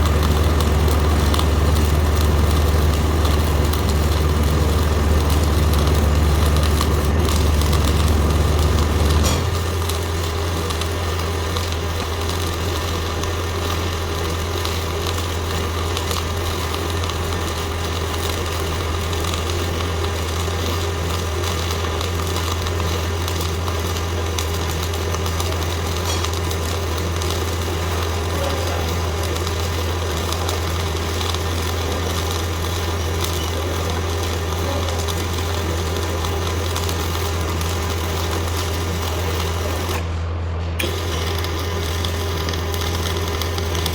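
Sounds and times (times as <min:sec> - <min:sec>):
steady low hum: 0:00.0 - 0:43.9
welding arc crackling: 0:00.0 - 0:43.9.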